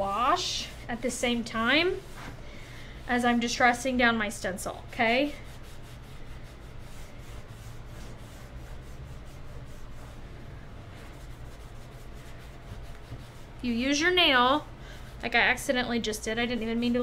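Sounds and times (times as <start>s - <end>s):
paper towel scrubbing painted wood: 0.0s - 2.4s, 3.0s - 17.0s
low steady hum: 0.0s - 17.0s.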